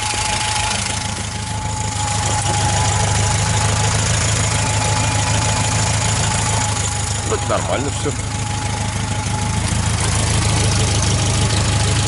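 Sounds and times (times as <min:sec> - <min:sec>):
thin steady whine: 0:00.0 - 0:11.9
car engine running: 0:00.0 - 0:12.0.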